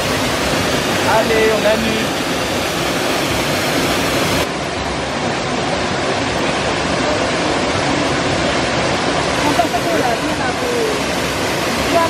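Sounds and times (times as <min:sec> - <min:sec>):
waterfall rushing into pool: 0:00.0 - 0:12.0.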